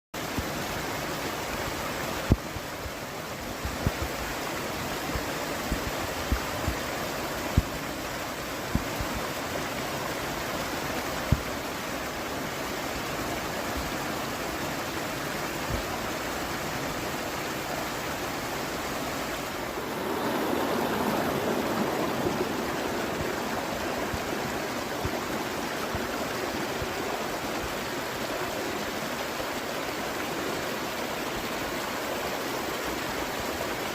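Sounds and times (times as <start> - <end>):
river water rushing: 0.2 - 33.9.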